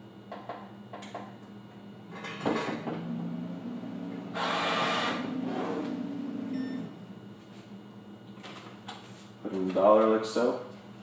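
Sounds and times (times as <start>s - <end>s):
machine low hum: 0.0s - 11.0s.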